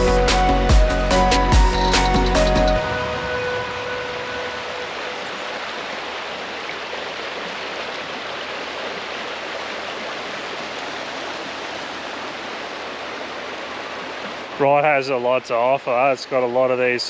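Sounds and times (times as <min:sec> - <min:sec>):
river water rushing: 0:01.6 - 0:16.9.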